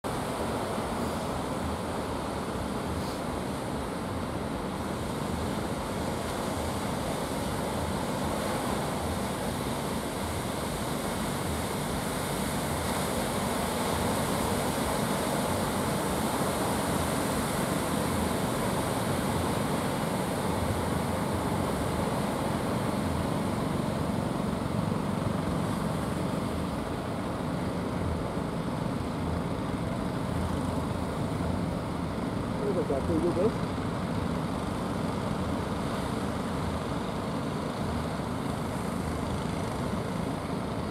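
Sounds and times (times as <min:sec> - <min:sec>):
boat engines droning: 0:00.1 - 0:40.9.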